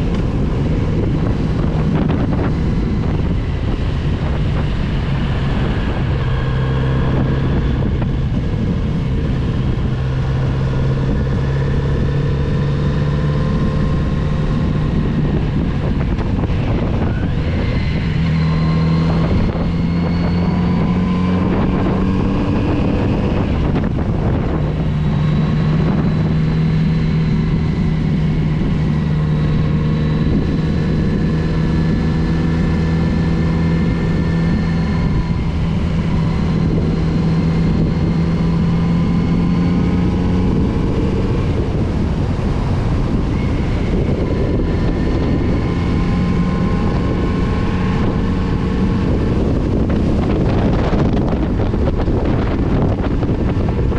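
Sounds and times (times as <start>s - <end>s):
motorcycle engine revving: 0.0s - 53.9s
wind rushing over microphone: 0.0s - 53.9s.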